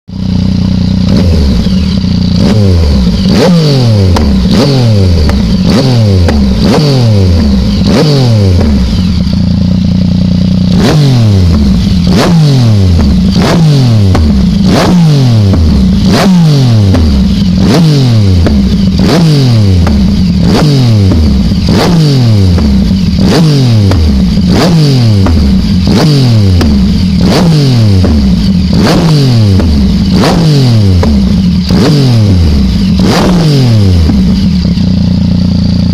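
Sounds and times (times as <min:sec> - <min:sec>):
motorcycle engine revving: 0:00.1 - 0:35.9
exhaust cracks: 0:00.5 - 0:09.5, 0:10.8 - 0:35.0.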